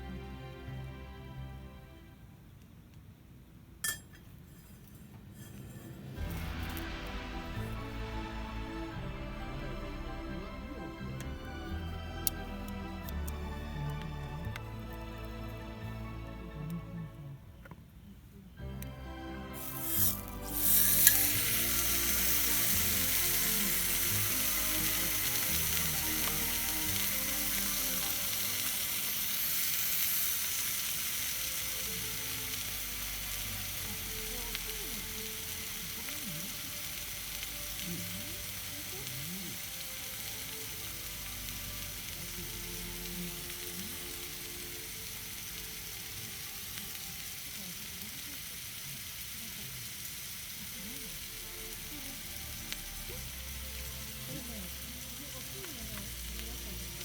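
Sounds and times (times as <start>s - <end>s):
steak sizzling in a skillet: 5.4s - 14.2s, 19.5s - 57.0s.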